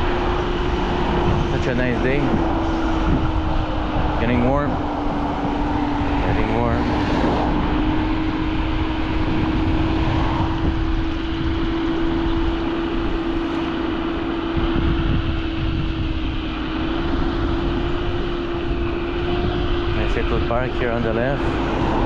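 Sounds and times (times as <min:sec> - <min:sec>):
electric scooter motor whining: 0:00.0 - 0:22.0
wind rumble on microphone: 0:00.0 - 0:22.0.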